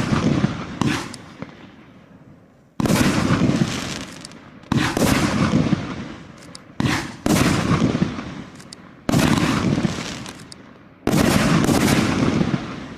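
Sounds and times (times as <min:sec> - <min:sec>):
fireworks shots banging: 0:00.0 - 0:01.8, 0:02.8 - 0:12.9
crackling hiss of fireworks stars: 0:00.0 - 0:12.9.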